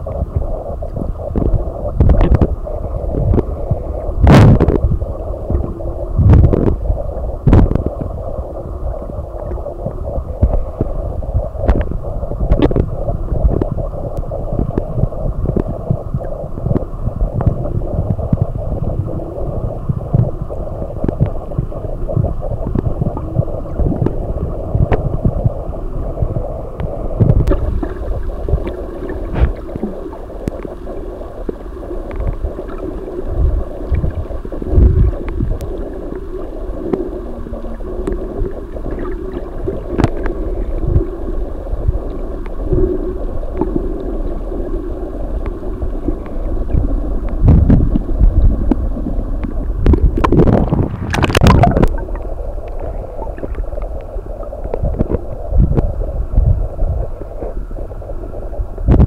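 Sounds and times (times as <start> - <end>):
low rumble of moving water: 0.0 - 59.0.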